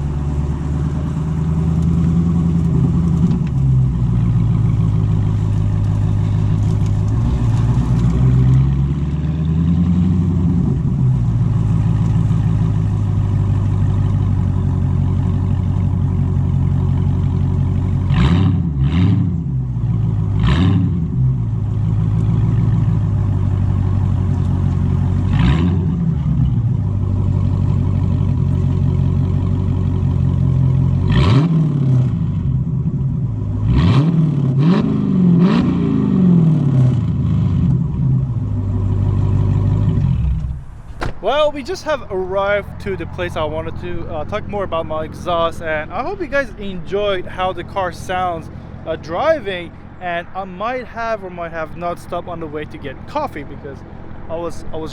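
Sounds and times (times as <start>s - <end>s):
exhaust pops: 0.0s - 33.1s, 36.6s - 54.9s
car engine droning: 0.0s - 54.9s.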